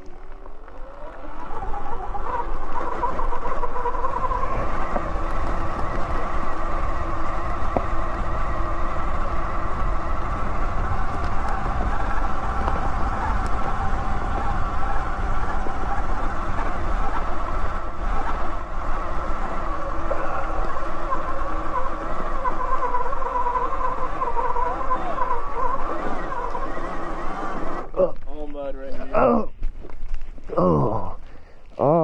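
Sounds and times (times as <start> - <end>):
electric motor whining: 0.0 - 28.2.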